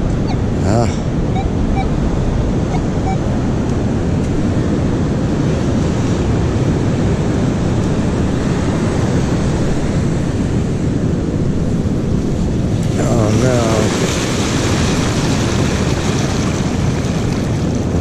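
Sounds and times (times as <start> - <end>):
ocean surf washing in: 0.0 - 18.0
wind buffeting microphone: 0.0 - 18.0.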